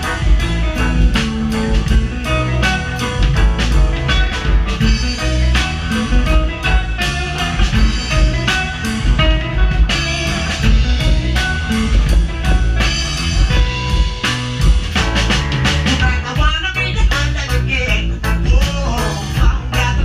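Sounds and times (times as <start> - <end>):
drum kit beat: 0.0 - 20.0
live band playing: 0.0 - 20.0.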